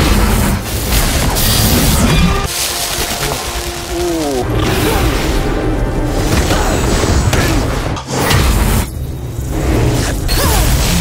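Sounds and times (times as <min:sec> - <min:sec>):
dramatic music score: 0:00.0 - 0:11.0.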